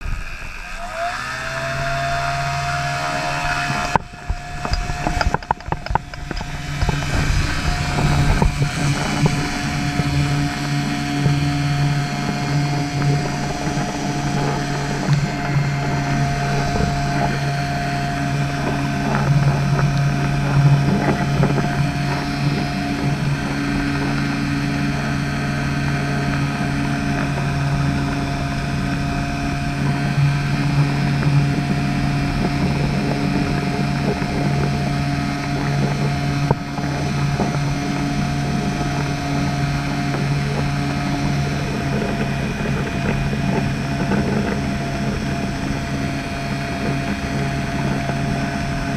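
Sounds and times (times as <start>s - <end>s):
motor spinning and humming: 0.0s - 48.9s
rough buffeting noise: 0.0s - 48.9s.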